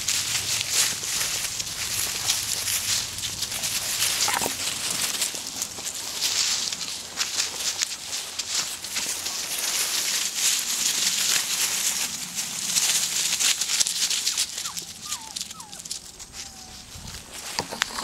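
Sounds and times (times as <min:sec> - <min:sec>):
puppies scampering through dry leaves: 0:00.0 - 0:18.0.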